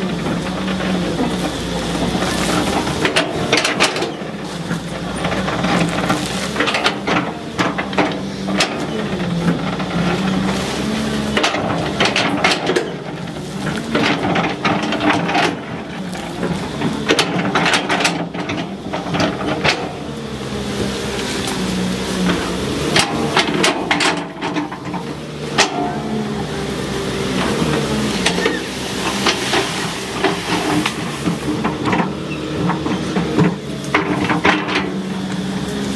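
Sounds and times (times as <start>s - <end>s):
metal clanks and knocks: 0.0s - 20.2s, 22.2s - 35.1s
bucket scraping soil: 0.0s - 35.9s
excavator diesel engine running: 0.0s - 35.9s.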